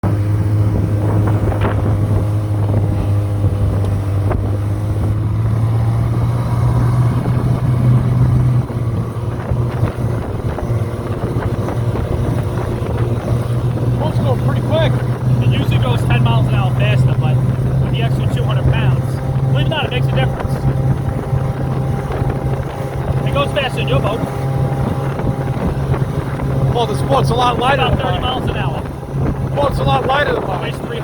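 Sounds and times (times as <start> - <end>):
motorboat engine running: 0.0 - 31.0
wind buffeting microphone: 0.0 - 31.0.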